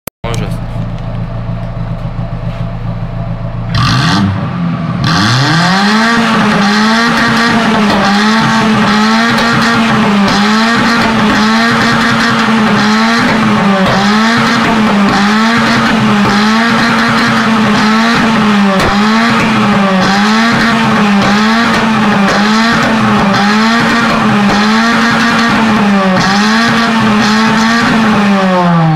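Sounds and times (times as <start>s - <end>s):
car engine revving: 0.3s - 28.9s.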